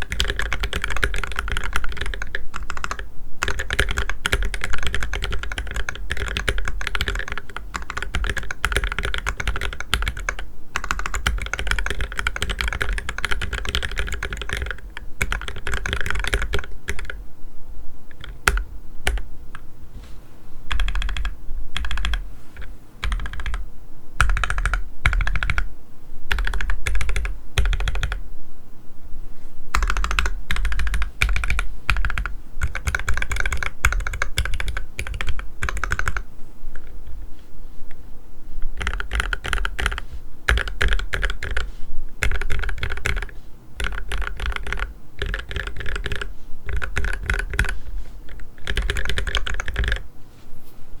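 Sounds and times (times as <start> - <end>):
mechanical keyboard typing: 0.0 - 17.2, 18.1 - 19.3, 20.7 - 23.6, 24.2 - 25.7, 26.3 - 28.2, 29.7 - 36.2, 38.7 - 50.0.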